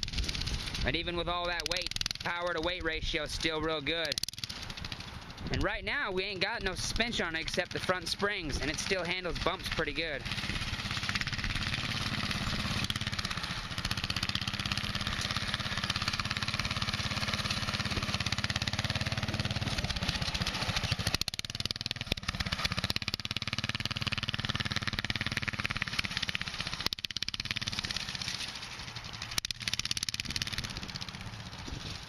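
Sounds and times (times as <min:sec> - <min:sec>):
go-kart engine running: 0:00.0 - 0:32.0.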